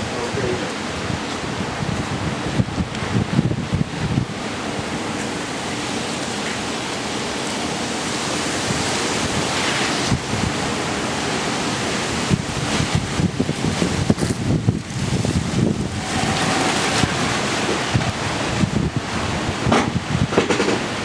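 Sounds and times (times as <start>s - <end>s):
wind buffeting microphone: 0.0s - 5.7s, 8.2s - 21.0s
strong wind rushing: 0.0s - 5.9s, 8.0s - 21.0s.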